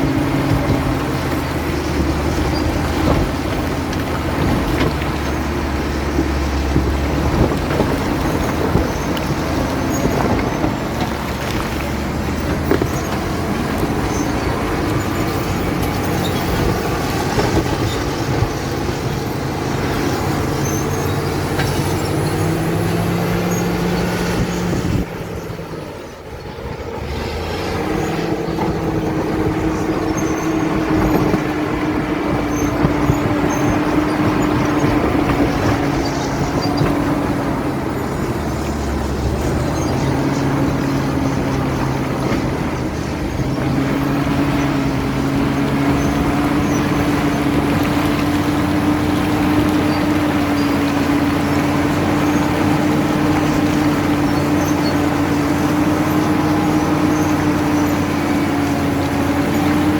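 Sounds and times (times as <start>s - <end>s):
bulldozer diesel engine: 0.0s - 59.9s
engine knocks: 0.0s - 59.9s.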